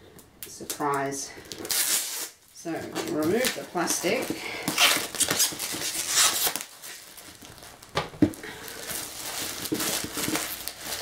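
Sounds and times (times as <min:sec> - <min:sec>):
plastic wrap crinkling: 0:00.4 - 0:11.0.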